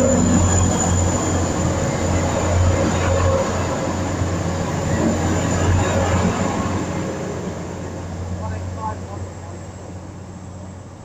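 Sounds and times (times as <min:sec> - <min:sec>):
diesel train running: 0:00.0 - 0:11.0
high whine: 0:00.0 - 0:11.0.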